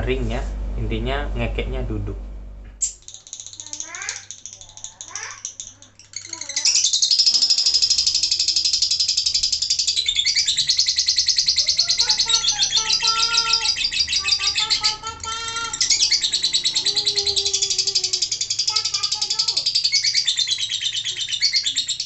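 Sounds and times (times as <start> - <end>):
lovebird chattering trill: 2.8 - 22.0.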